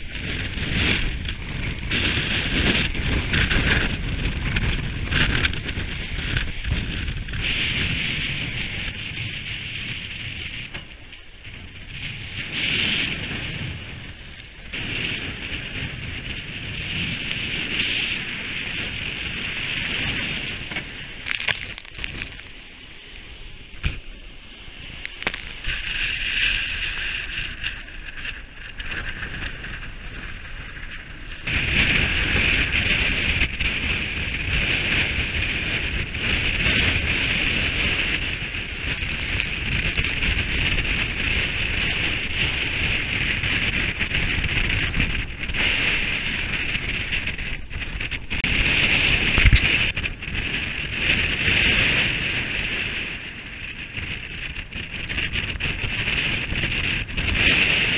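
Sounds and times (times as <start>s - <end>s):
water rushing along hull: 0.0s - 57.9s
wind buffeting microphone: 0.0s - 57.9s.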